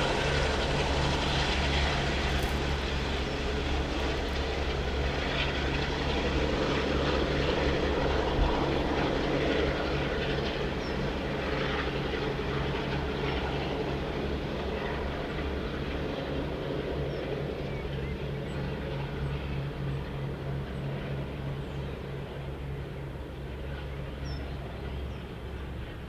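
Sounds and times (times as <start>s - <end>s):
diesel locomotives droning: 0.0s - 26.0s.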